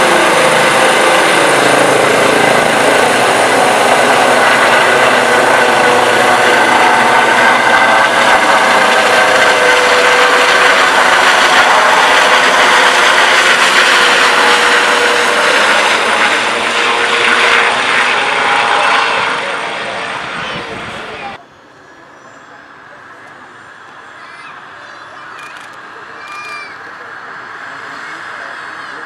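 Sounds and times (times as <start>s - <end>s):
helicopter flying overhead: 0.0s - 21.4s, 22.0s - 29.0s.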